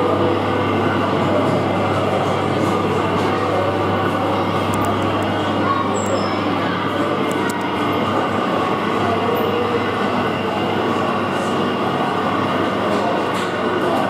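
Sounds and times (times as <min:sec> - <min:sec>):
ride and machine noise: 0:00.0 - 0:14.0.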